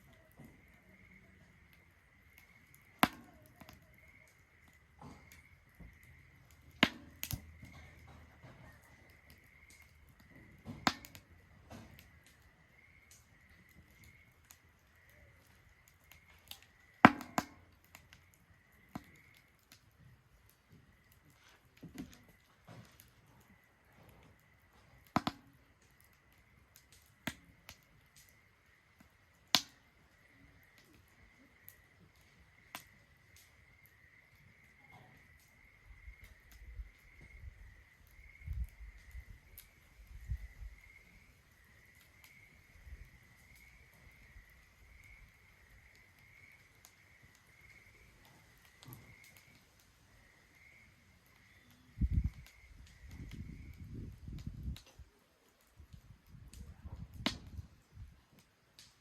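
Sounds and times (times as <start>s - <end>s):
fire sharp pops: 0.0s - 59.0s
wood fire crackling: 0.0s - 59.0s.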